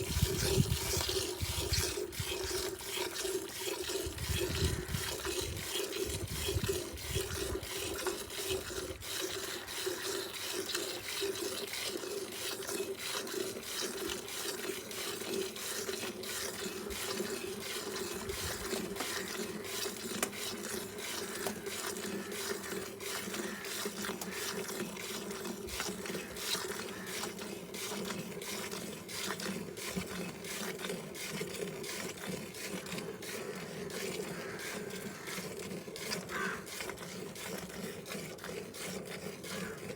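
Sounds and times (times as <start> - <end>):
milk splashing into container: 0.0 - 39.9.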